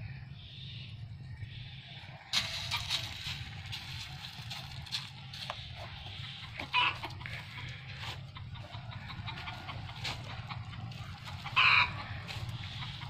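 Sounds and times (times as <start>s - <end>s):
chicken clucking: 1.8s - 13.0s.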